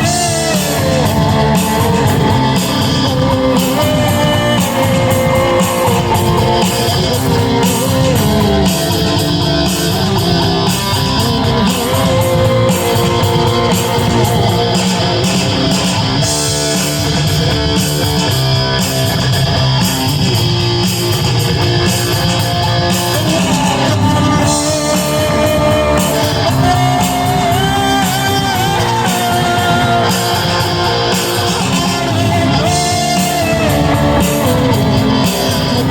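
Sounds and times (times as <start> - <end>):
distorted electric guitar rock music: 0.0 - 35.9.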